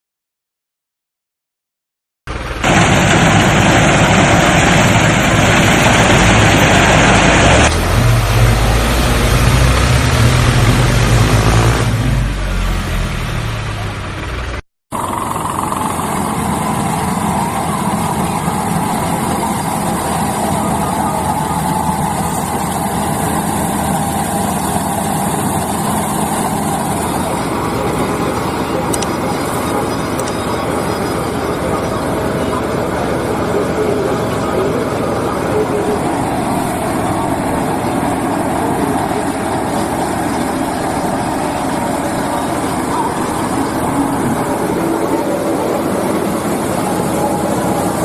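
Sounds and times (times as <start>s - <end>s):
engine humming: 2.3s - 48.0s.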